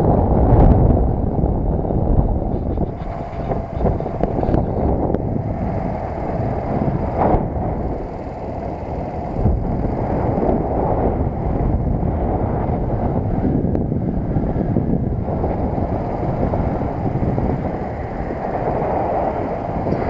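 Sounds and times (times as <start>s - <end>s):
road noise: 0.0s - 20.0s
wind rushing over microphone: 0.0s - 20.0s
moped engine running: 2.3s - 20.0s.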